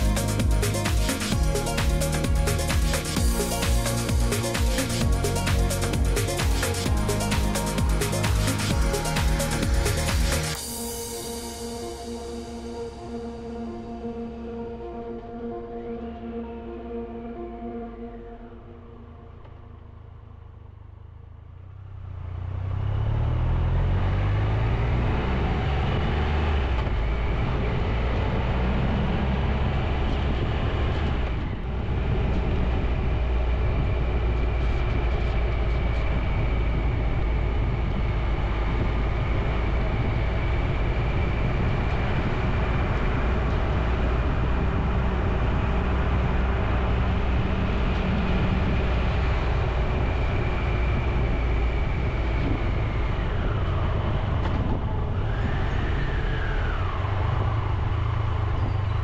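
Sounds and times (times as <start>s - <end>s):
motorcycle engine: 0.0s - 59.0s
wind and road noise: 0.0s - 59.0s.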